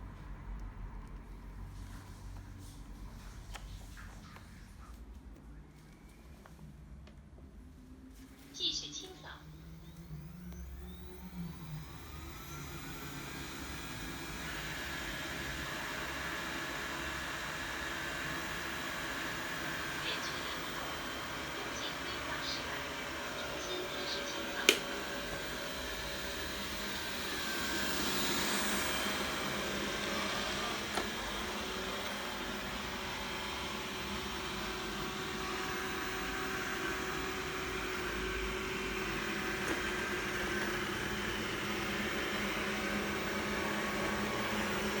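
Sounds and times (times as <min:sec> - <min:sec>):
robot vacuum motor whirring: 0:08.7 - 0:45.0.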